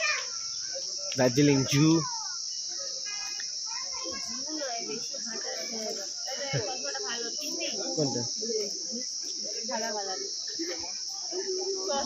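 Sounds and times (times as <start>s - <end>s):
crowd chatter: 0.0s - 12.0s
high-pitched insect chorus: 0.0s - 12.0s.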